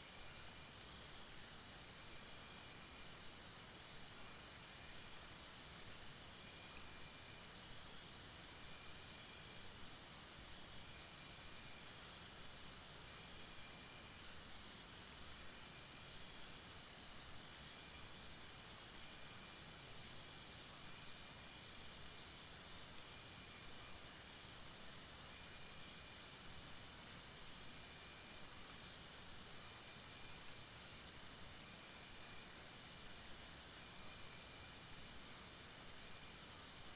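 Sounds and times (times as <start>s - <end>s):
faint hiss: 0.0s - 36.9s
lower insect trill: 0.0s - 36.9s
high pulsing insect trill: 0.1s - 29.9s.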